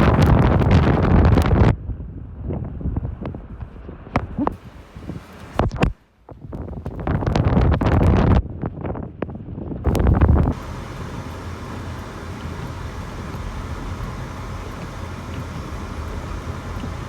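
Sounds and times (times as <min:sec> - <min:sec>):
wind gusting against microphone: 0:00.0 - 0:17.0.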